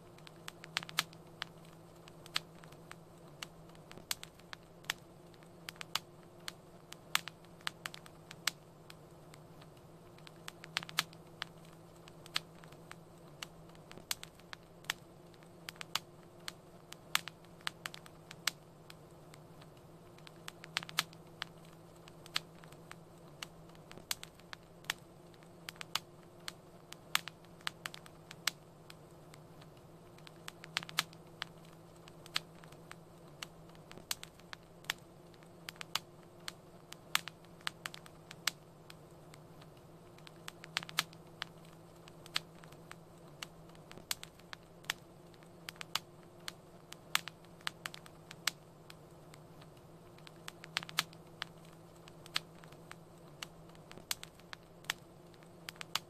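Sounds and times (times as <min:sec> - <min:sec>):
fire crackling: 0:00.0 - 0:56.0
steady low hum: 0:00.0 - 0:56.0.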